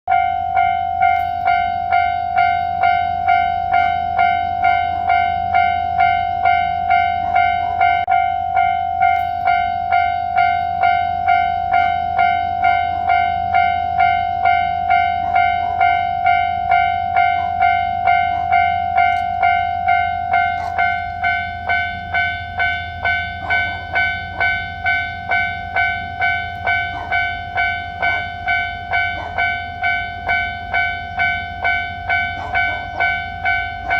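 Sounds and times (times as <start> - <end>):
level-crossing warning bell ringing: 0.1 - 33.9.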